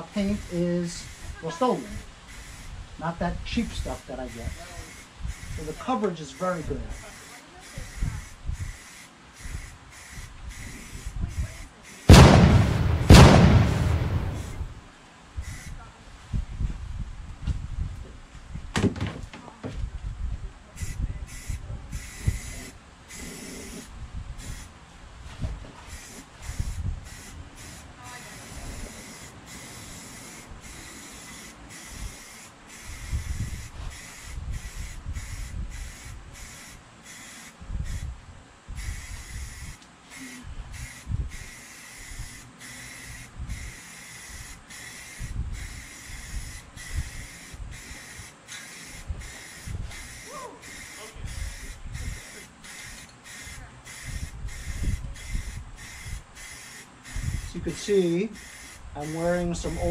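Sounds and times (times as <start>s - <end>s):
spray paint can hissing: 0.0s - 2.8s, 3.5s - 14.8s, 15.4s - 15.8s, 20.8s - 24.7s, 25.8s - 38.1s, 38.8s - 59.9s.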